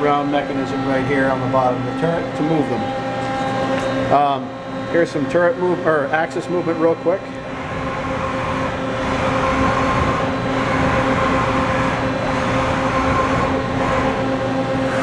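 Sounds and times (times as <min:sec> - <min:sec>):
lathe mechanical whine: 0:00.0 - 0:15.0
machine hum: 0:00.0 - 0:15.0.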